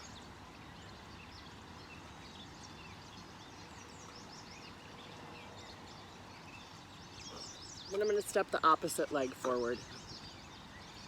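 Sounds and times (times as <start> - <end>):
birds chirping and calling: 0.9 - 11.0.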